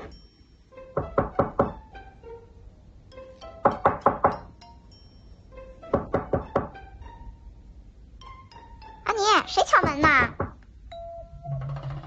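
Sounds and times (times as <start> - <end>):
light plucked background music: 0.0 - 12.0.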